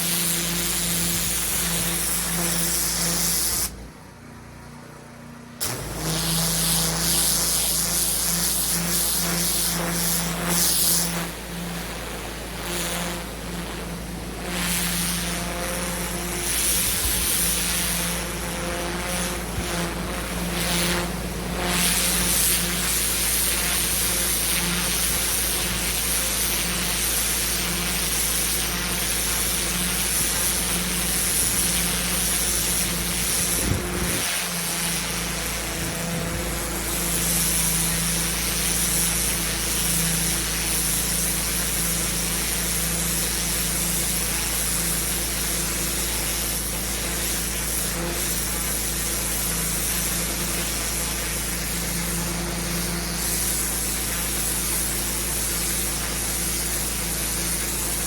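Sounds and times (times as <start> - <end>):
water jet hissing on paving: 0.0 - 3.8, 5.6 - 58.0
pressure washer motor humming: 0.0 - 58.0.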